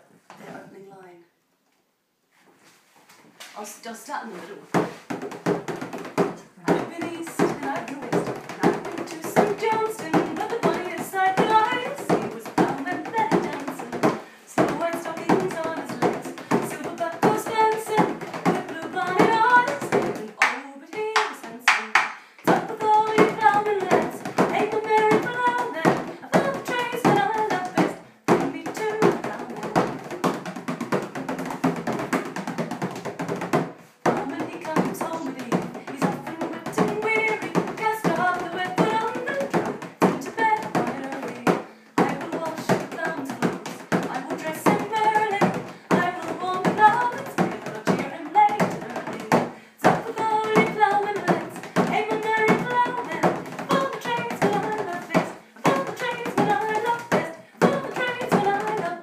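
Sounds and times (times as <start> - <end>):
frame drum beating: 4.7 - 59.0
woman singing: 5.8 - 31.1, 34.0 - 59.0.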